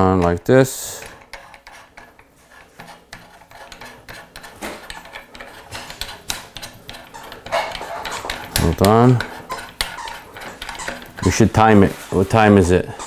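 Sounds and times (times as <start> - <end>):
metal parts clicking and scraping: 0.2 - 13.0.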